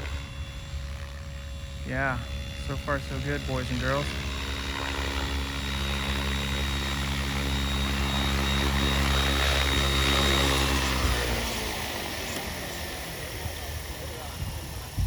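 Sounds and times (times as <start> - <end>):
electric helicopter rotor buzz: 0.0 - 15.0
high motor whine: 0.0 - 15.0.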